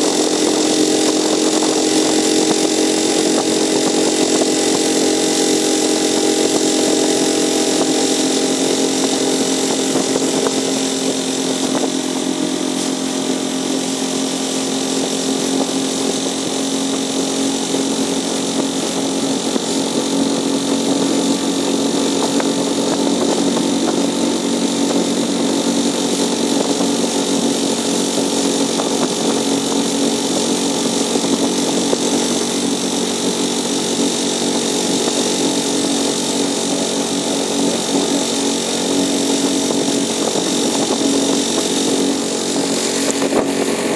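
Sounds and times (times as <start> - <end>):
outboard motor running: 0.0 - 43.9
water splashing against hull: 0.0 - 43.9.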